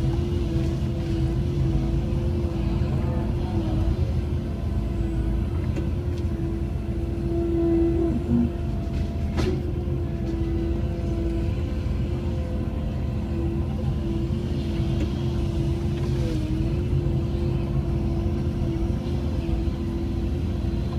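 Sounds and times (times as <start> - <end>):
excavator engine and hydraulics: 0.0 - 20.9.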